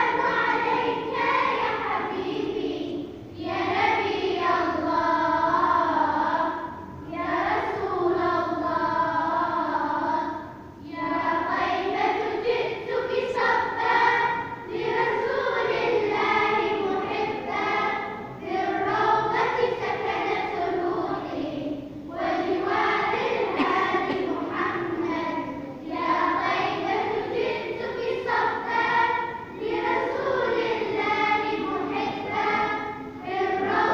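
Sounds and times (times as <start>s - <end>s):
high voices singing unaccompanied: 0.0s - 33.9s.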